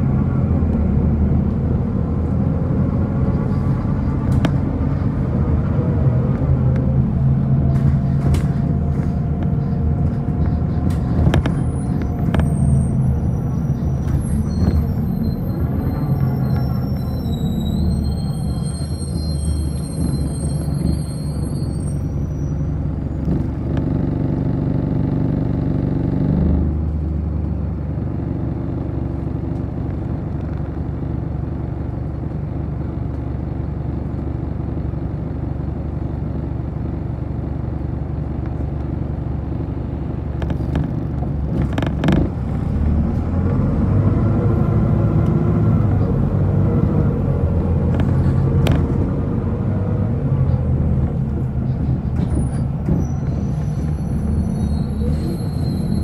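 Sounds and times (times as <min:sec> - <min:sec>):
bus engine idling and accelerating: 0:00.0 - 0:56.0.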